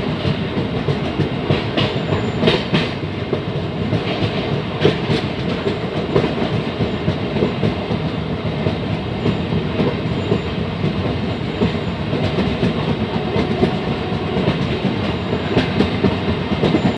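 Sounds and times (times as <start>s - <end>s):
train rumbling: 0.0s - 16.9s.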